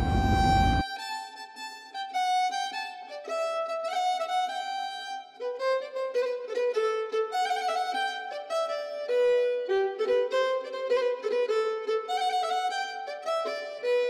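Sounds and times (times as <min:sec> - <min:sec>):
quick violin melody: 0:00.0 - 0:14.0.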